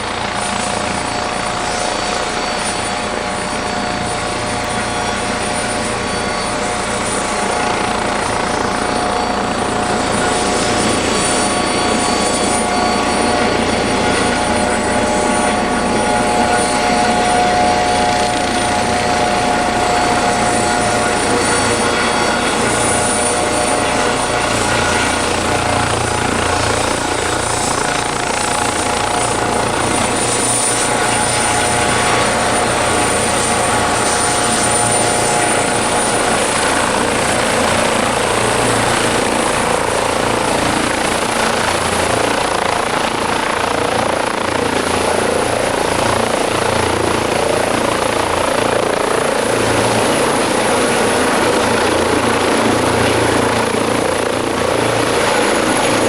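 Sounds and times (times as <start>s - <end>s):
helicopter rotor beat: 0.0s - 56.0s
helicopter turbine whine: 0.0s - 56.0s.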